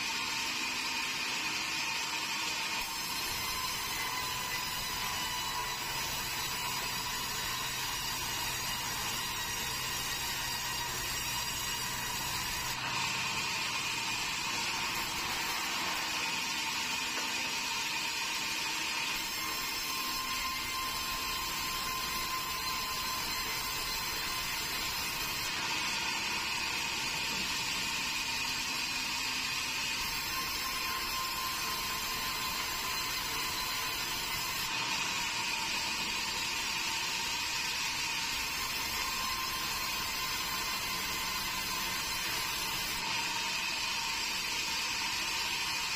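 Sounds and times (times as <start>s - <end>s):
band saw whining through board: 0.0s - 45.9s.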